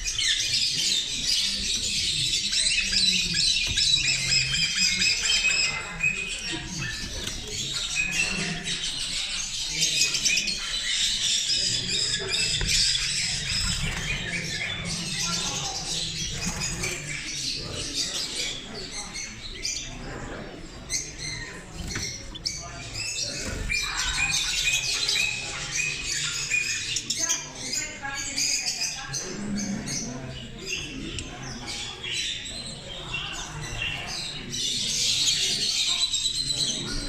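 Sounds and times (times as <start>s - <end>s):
caged birds chirping and squawking: 0.0s - 37.0s
murmur of voices: 0.0s - 37.0s.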